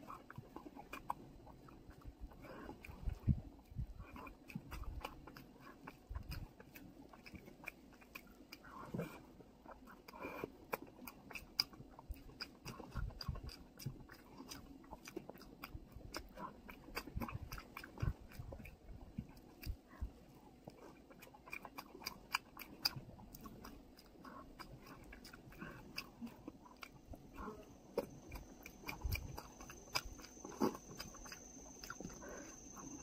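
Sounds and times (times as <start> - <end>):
chewing and mouth smacking: 0.0 - 33.0.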